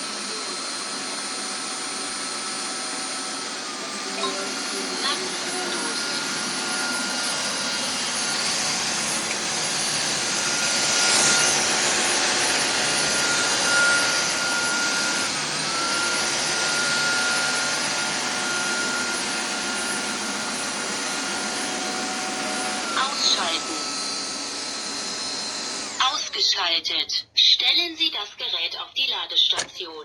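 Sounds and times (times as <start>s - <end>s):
vacuum motor high whine: 0.0s - 26.7s.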